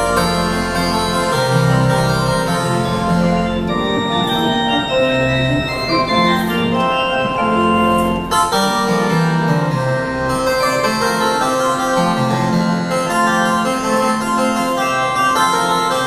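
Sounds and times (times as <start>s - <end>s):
pipe organ chords: 0.0s - 16.0s.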